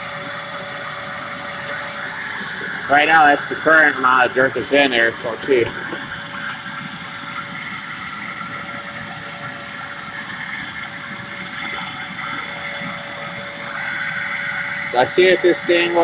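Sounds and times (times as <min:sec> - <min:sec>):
vacuum cleaner running on carpet: 0:00.0 - 0:16.0.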